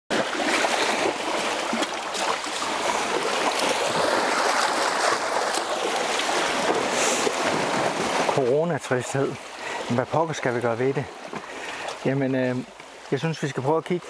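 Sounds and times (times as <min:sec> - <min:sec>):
surf: 0:00.1 - 0:14.0
wind: 0:00.1 - 0:14.0.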